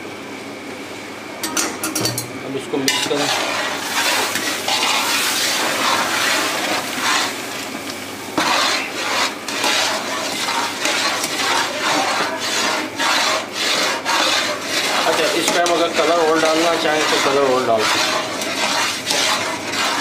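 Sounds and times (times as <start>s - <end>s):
metal utensil stirring in pot: 1.4s - 20.0s.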